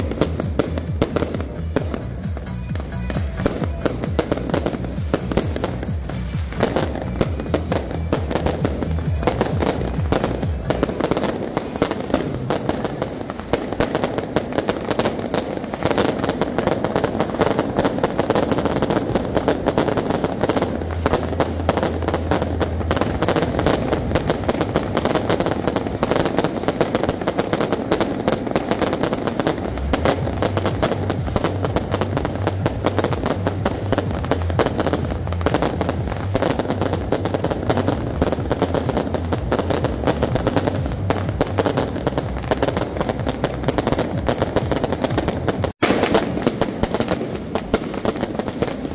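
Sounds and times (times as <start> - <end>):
fireworks bangs and crackling: 0.0 - 48.9.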